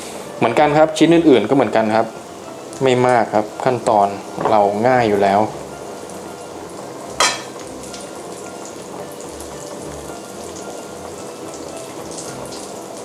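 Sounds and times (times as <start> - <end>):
chicken deep-frying in oil: 0.1 - 13.0.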